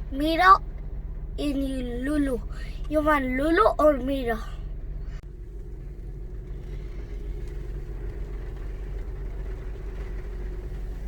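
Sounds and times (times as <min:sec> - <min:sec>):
car engine rumble: 0:00.0 - 0:11.0
faint steady hum: 0:00.0 - 0:11.0
road noise: 0:00.0 - 0:11.0.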